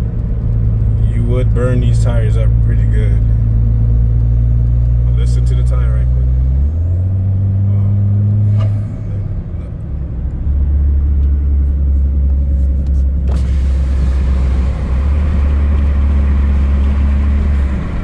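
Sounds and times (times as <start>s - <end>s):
tire drone inside car: 0.0s - 18.0s.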